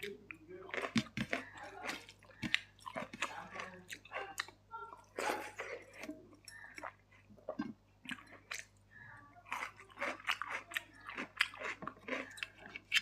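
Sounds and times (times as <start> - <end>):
close chewing and biting: 0.0 - 13.0.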